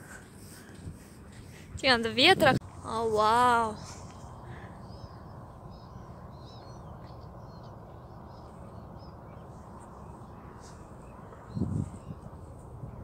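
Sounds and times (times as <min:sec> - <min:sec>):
birds chirping: 0:01.4 - 0:13.0.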